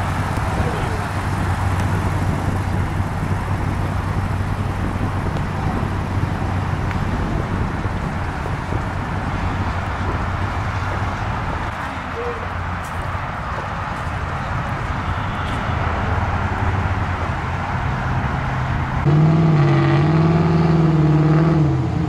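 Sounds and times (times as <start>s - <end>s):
vehicle engine idling: 0.0s - 19.0s
outdoor traffic noise: 0.0s - 22.0s.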